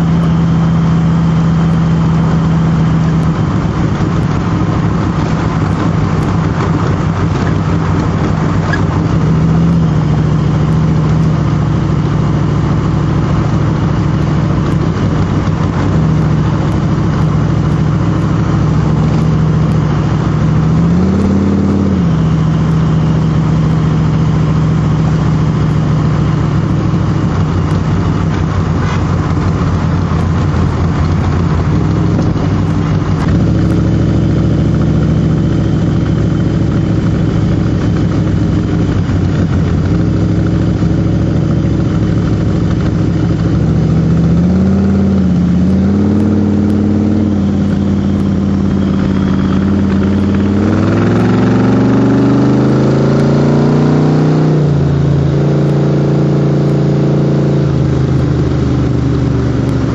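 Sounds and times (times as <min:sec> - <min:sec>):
wind noise: 0:00.0 - 0:53.6
car engine running: 0:00.0 - 0:59.9
road noise: 0:00.0 - 0:59.9.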